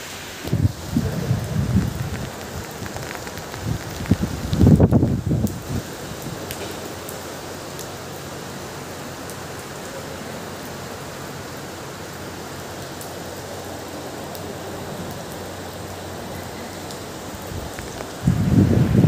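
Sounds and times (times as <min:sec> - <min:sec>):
rain on road and puddles: 0:00.0 - 0:19.0.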